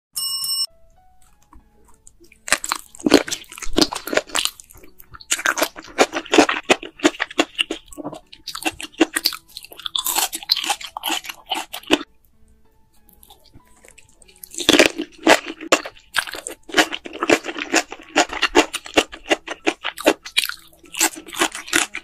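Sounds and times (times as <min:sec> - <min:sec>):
chewing and biting mushrooms: 0:01.2 - 0:12.1, 0:13.1 - 0:22.0.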